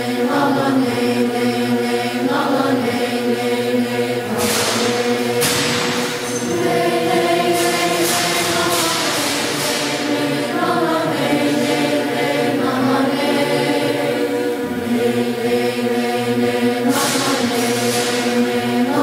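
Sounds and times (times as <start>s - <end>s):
choir singing a slow chant: 0.0s - 19.0s.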